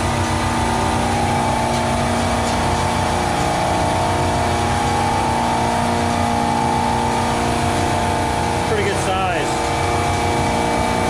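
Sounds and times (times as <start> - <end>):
refrigeration unit humming: 0.0 - 11.0.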